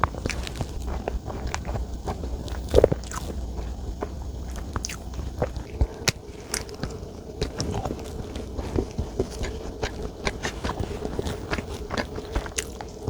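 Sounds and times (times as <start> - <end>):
loud bite: 0.0 - 13.0
mouth clicks: 0.0 - 13.0
wet chewing: 0.0 - 13.0.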